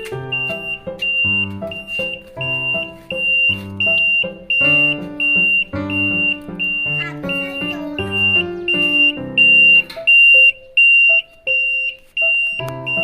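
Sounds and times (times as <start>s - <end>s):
electronic melody with bass: 0.0s - 13.0s
high-pitched electronic alarm beeps: 0.3s - 13.0s.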